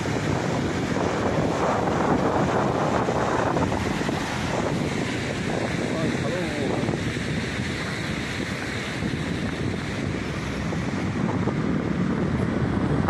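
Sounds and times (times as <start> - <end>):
steady rushing noise: 0.0 - 13.0
wind buffeting microphone: 0.0 - 13.0.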